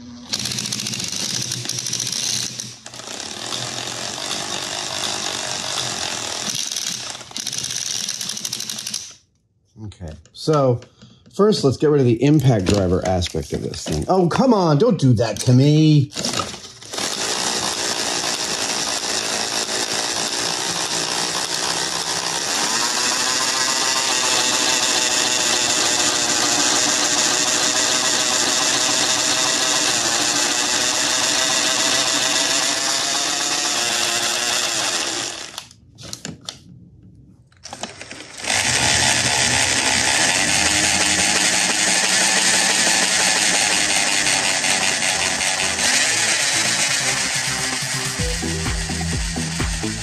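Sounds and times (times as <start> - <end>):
power drill whirring: 0.0 - 9.2, 15.3 - 35.8, 37.6 - 50.0.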